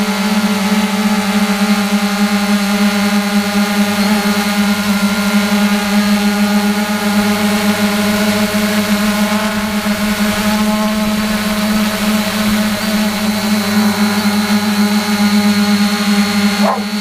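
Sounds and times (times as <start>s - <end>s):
quadcopter propellers humming: 0.0s - 17.0s.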